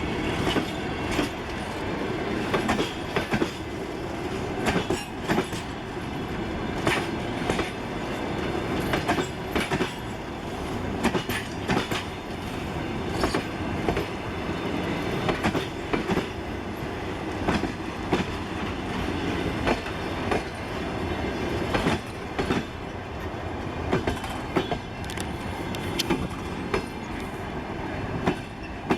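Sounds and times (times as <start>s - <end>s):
train carriages rumbling past: 0.0s - 28.9s
wheels clacking over rail joints: 0.2s - 5.8s, 6.7s - 10.2s, 11.0s - 28.9s.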